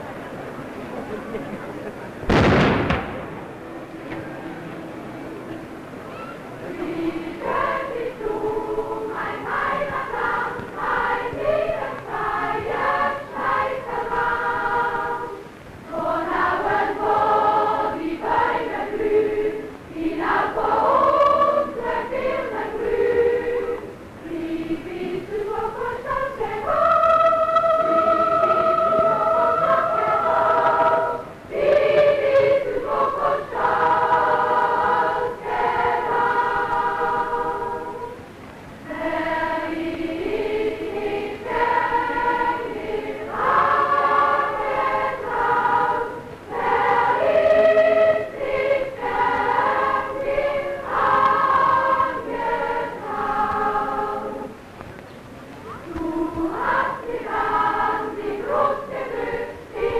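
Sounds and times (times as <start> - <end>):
children's choir singing: 3.1 - 54.8, 55.7 - 59.9.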